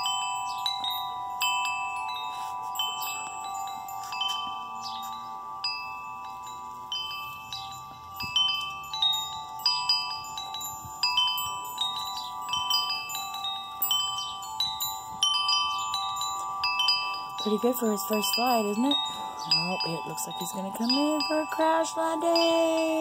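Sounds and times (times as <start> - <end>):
wind chimes ringing: 0.0 - 23.0.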